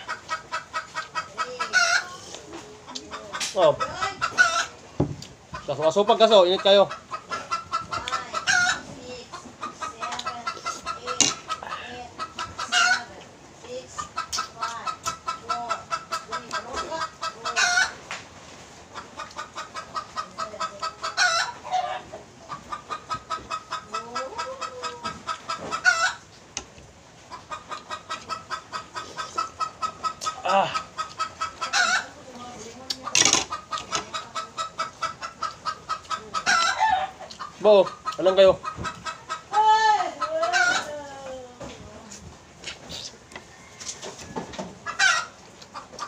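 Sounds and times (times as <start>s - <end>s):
chicken clucking: 0.0s - 46.0s.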